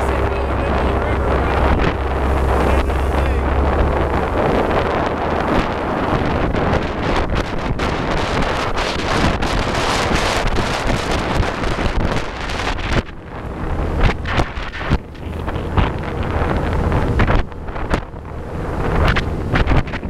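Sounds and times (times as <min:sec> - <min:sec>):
boat motor rumble: 0:00.0 - 0:20.0
rushing water: 0:00.0 - 0:20.0
wind buffeting microphone: 0:00.0 - 0:20.0.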